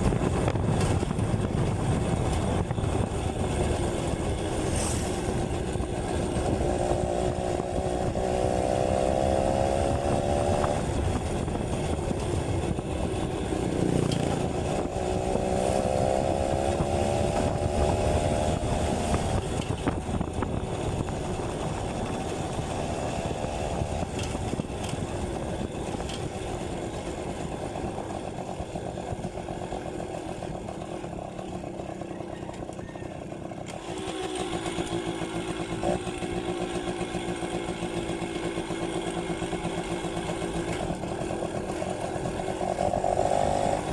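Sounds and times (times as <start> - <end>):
two-stroke engine revving: 0.0 - 32.8, 33.4 - 43.9.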